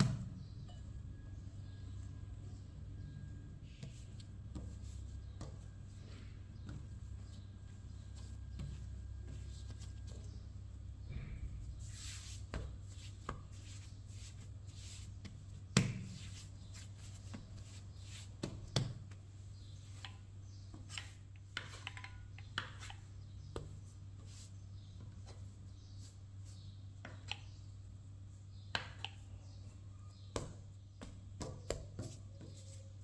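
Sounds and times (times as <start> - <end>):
hands kneading dough: 0.0 - 33.0.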